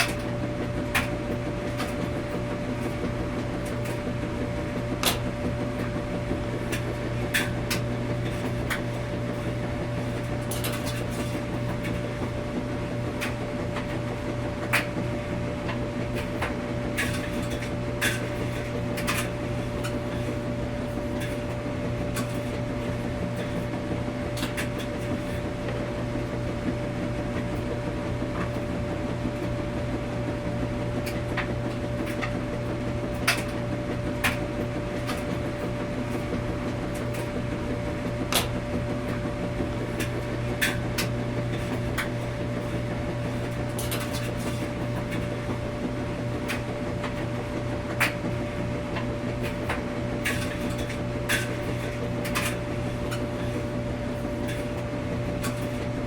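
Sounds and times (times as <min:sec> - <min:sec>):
washing machines humming: 0:00.0 - 0:56.0.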